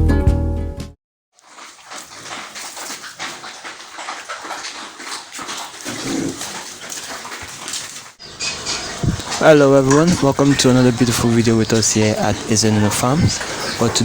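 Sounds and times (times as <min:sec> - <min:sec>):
pigs vocalising: 0:01.4 - 0:14.0.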